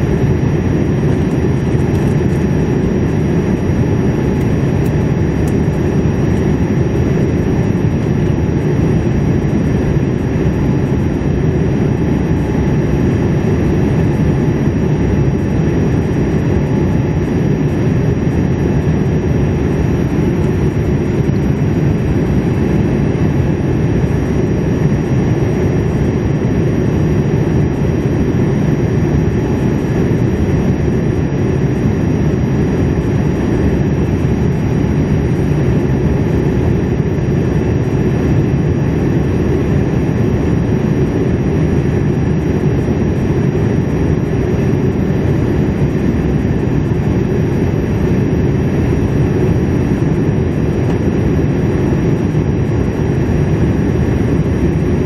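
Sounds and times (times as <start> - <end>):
aircraft engine rumble: 0.0 - 55.0.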